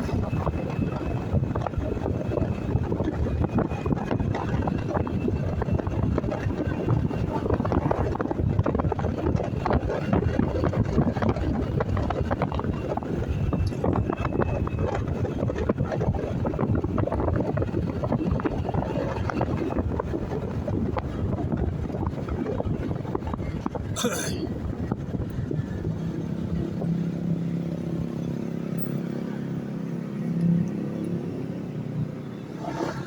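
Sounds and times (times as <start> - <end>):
road noise: 0.0 - 33.0
wind rushing over microphone: 0.0 - 33.0.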